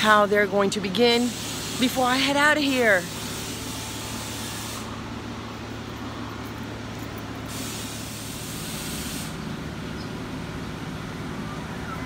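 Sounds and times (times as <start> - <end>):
city traffic: 0.0 - 12.0
low constant hum: 0.0 - 12.0.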